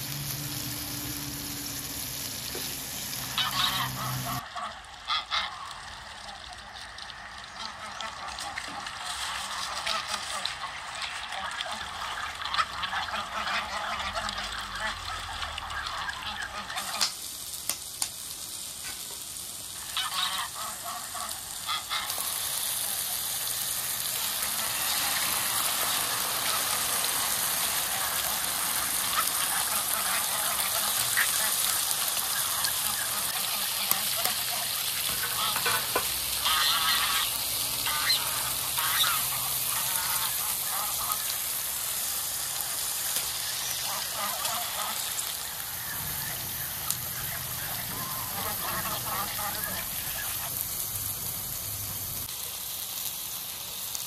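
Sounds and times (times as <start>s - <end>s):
steady hiss: 0.0s - 11.1s, 13.3s - 54.0s
geese honking: 2.4s - 17.1s, 19.8s - 50.8s.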